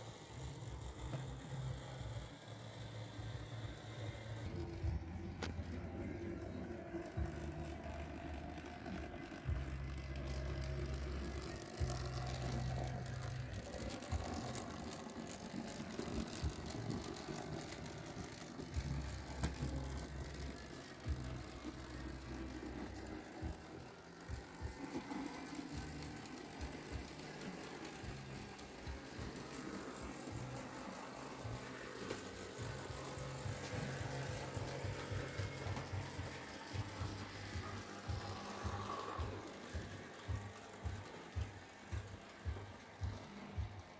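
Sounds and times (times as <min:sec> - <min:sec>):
model train motor humming: 0:00.0 - 0:43.9
wheels clicking on track: 0:00.0 - 0:43.9.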